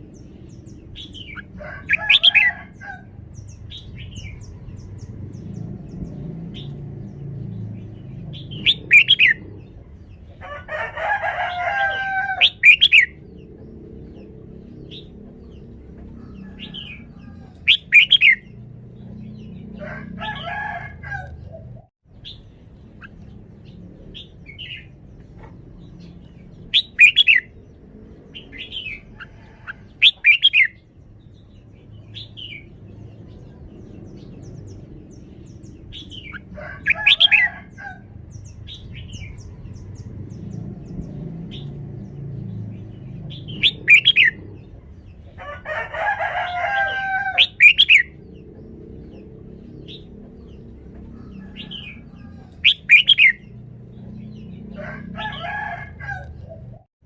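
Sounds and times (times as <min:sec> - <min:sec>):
bird singing bright phrases: 0:00.0 - 0:10.4, 0:11.5 - 0:20.5, 0:21.2 - 0:45.4, 0:46.3 - 0:55.4.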